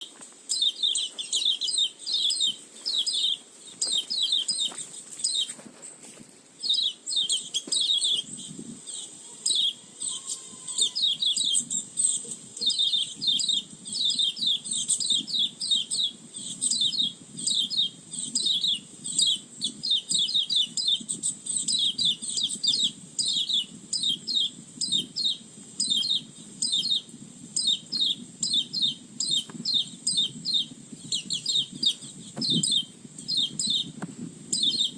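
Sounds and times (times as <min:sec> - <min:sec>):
bird chattering: 0:00.0 - 0:05.5, 0:06.6 - 0:33.9
steady high hiss: 0:00.0 - 0:34.9.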